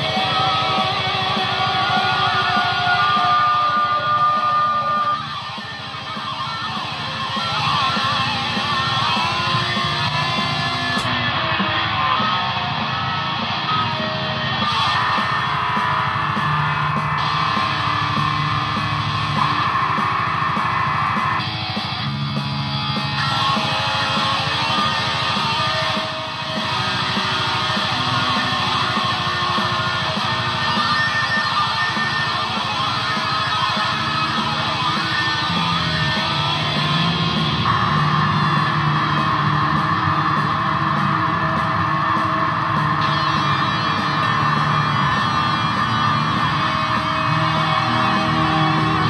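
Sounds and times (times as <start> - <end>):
electric guitar through effects: 0.0 - 49.0.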